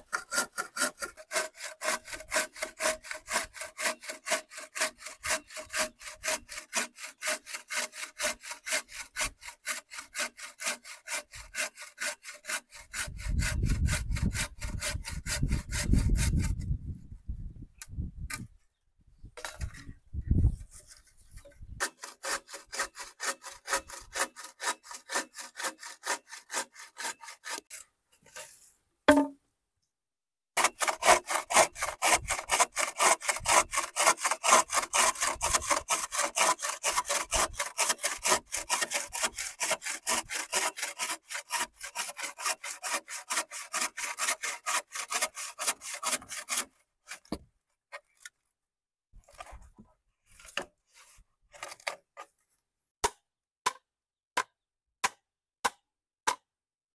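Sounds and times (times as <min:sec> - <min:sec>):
hand saw cutting bamboo: 0:00.0 - 0:16.7, 0:19.4 - 0:19.9, 0:20.6 - 0:29.3, 0:30.6 - 0:48.4, 0:49.2 - 0:52.4, 0:54.4 - 0:56.4.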